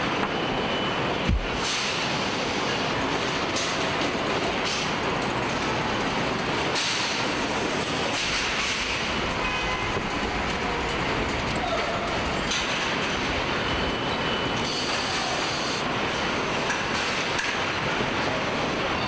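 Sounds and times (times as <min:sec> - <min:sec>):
conveyors and machinery running: 0:00.0 - 0:19.0.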